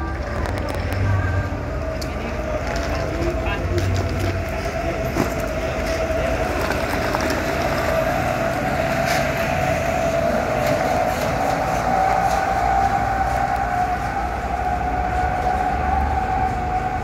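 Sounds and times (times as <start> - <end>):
heavy engine drone with whine: 0.0 - 17.0
wind rumble on microphone: 0.0 - 17.0.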